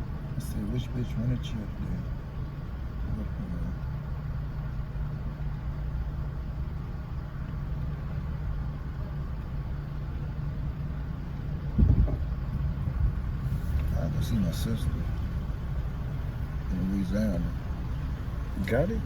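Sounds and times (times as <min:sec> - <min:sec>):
car engine idling: 0:00.0 - 0:19.0
low engine rumble: 0:00.0 - 0:19.0.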